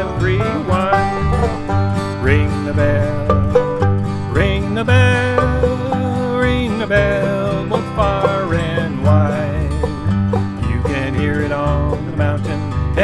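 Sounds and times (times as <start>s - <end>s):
person singing: 0.0s - 13.0s
plucked string accompaniment: 0.0s - 13.0s.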